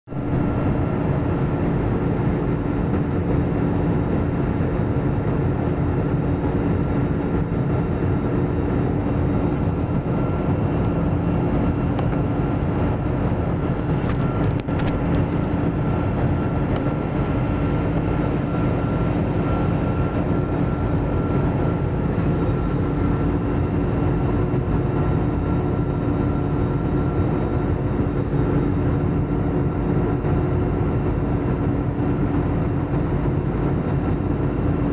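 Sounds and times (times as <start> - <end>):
high whine: 0.1 - 34.9
jet engines droning: 0.1 - 34.9.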